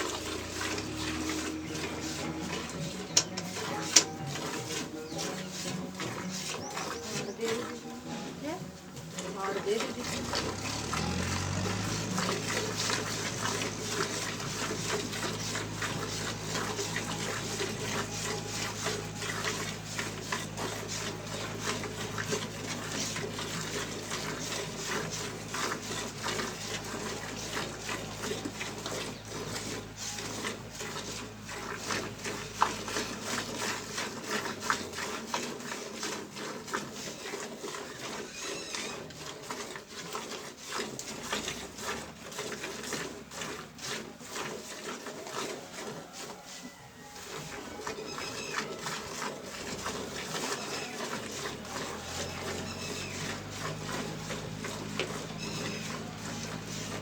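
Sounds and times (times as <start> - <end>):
milk jets hissing into pail: 0.0 - 57.0.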